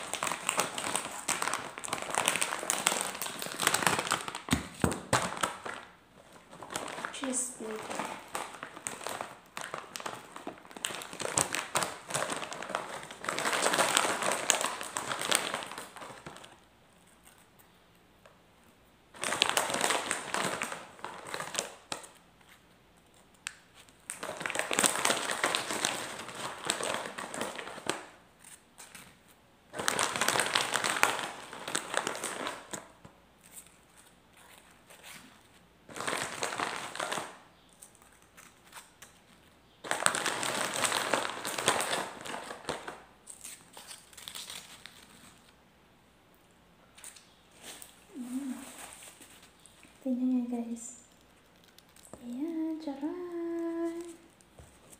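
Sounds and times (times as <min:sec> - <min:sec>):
crisp packet crinkling: 0:00.0 - 0:17.6, 0:19.1 - 0:45.6, 0:51.0 - 0:54.9.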